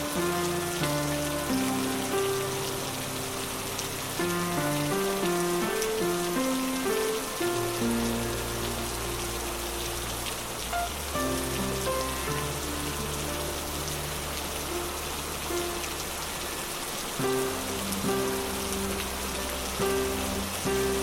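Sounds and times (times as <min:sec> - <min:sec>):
soft ambient music: 0:00.0 - 0:21.0
steady rain hiss: 0:00.0 - 0:21.0.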